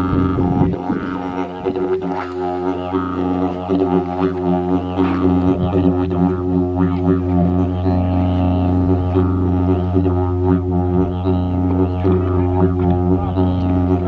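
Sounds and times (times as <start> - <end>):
didgeridoo drone: 0.0 - 14.0.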